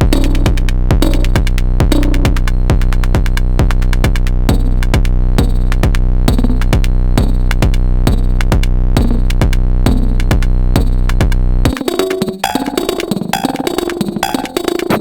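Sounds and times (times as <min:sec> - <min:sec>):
drum machine kick: 0:00.0 - 0:15.0.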